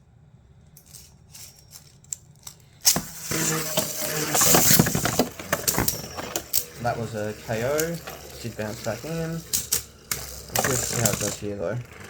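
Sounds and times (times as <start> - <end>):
spinning tops launched: 0.8 - 12.0
spinning tops whirring: 0.8 - 12.0
tops clattering and scraping: 0.8 - 12.0.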